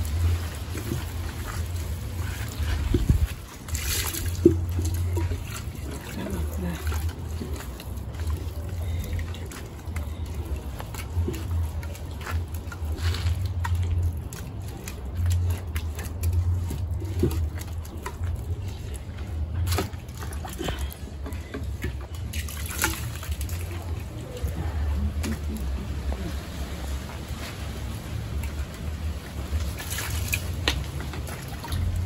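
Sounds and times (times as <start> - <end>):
low uneven rumble: 0.0 - 32.0
water sloshing and trickling: 0.0 - 32.0.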